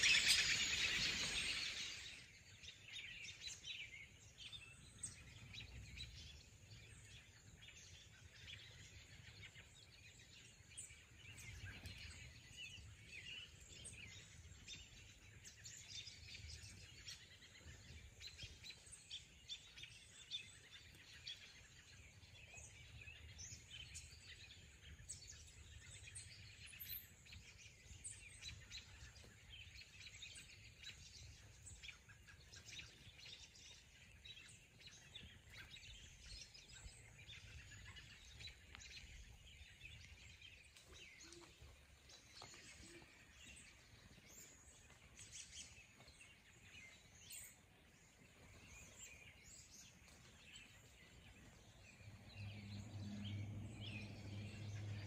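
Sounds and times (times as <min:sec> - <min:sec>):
wild birds chirping: 0:00.0 - 0:55.0.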